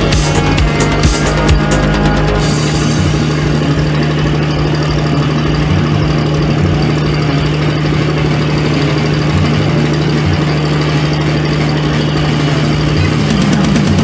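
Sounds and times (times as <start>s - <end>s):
large engine idling: 0.0s - 14.0s.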